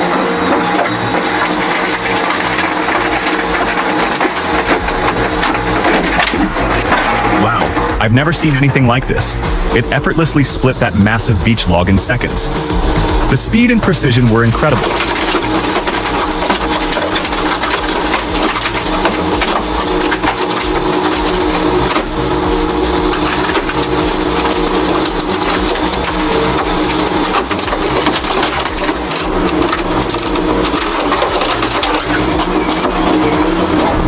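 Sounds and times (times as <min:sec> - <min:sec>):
dense grinding noise: 0:00.0 - 0:34.0
heavy machinery humming: 0:00.0 - 0:34.0.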